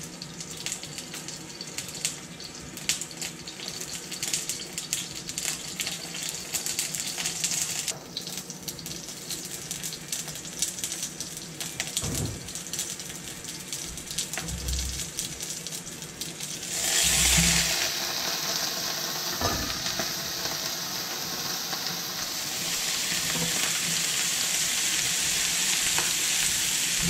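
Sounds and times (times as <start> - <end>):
oil sizzling in a frying pan: 0.0 - 27.0.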